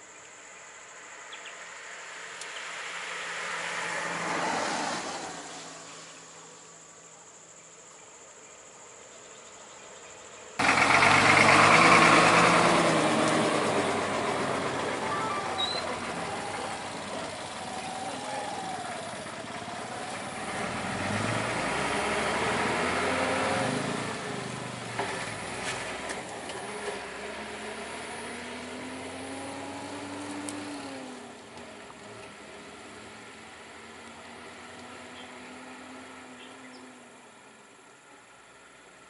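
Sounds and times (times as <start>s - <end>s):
vehicle engines droning: 0.2s - 39.0s.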